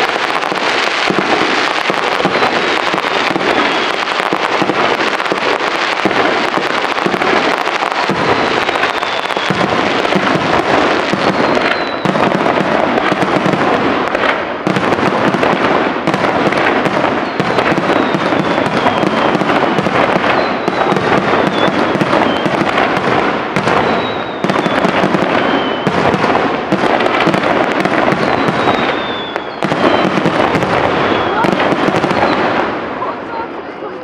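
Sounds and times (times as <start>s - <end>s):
falling firework whistle: 0.0s - 13.6s, 16.2s - 26.3s, 27.0s - 32.6s
fireworks bursting and crackling: 0.0s - 34.0s.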